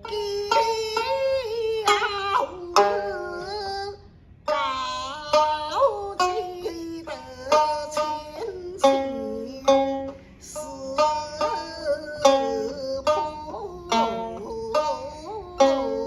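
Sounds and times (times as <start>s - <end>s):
plucked string instrument: 0.0s - 16.0s
woman singing in high voice: 0.0s - 16.0s.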